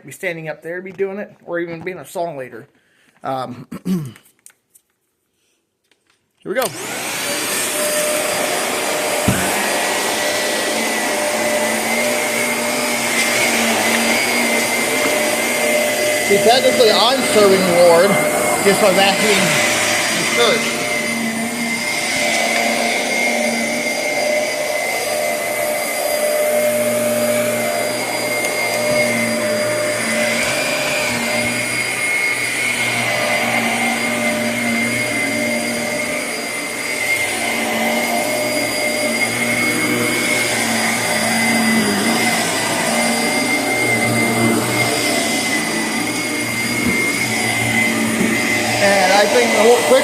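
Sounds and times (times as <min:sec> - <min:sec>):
vacuum cleaner running: 0:06.6 - 0:50.0.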